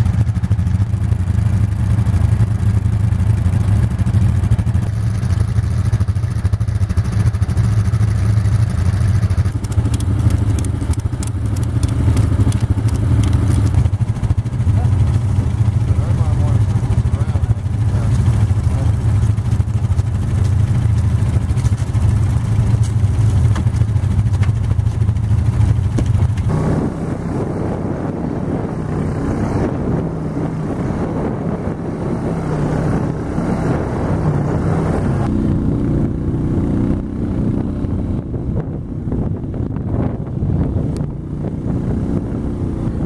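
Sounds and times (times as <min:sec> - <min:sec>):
small vehicle engine running: 0:00.0 - 0:43.0.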